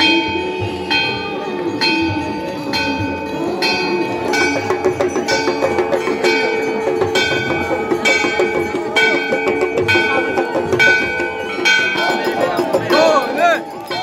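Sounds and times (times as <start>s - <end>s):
bells ringing: 0.0s - 14.0s.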